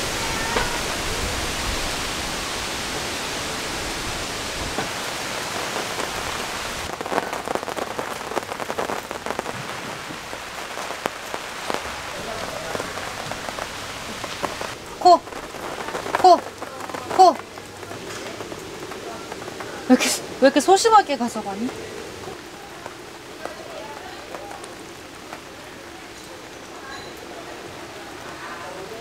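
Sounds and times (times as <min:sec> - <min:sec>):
heavy rain with gusting wind: 0:00.0 - 0:29.0
rain drops on stones and gravel: 0:00.0 - 0:29.0.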